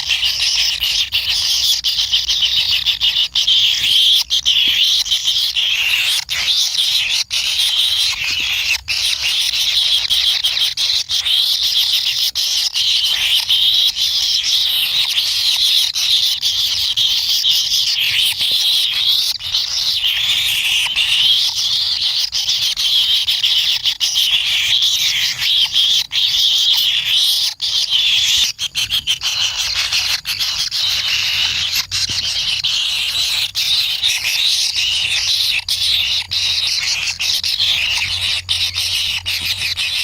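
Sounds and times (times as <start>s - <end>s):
chicks buzzy begging calls: 0.0s - 40.0s.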